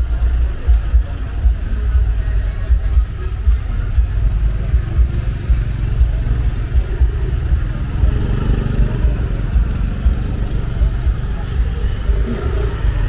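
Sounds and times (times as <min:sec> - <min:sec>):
faint voices: 0:00.0 - 0:13.0
vehicle engines rumbling: 0:00.0 - 0:13.0.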